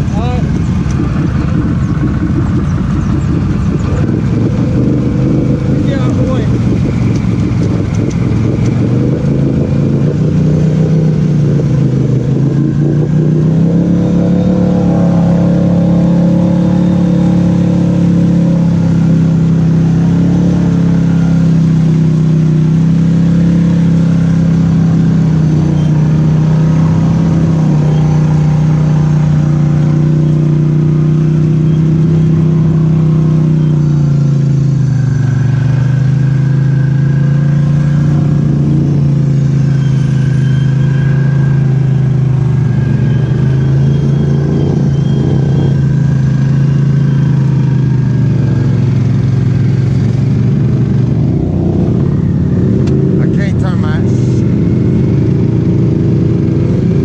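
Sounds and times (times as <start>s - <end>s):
quad bike engine revving: 0.0s - 57.0s
vehicle churning through muddy water: 0.0s - 57.0s.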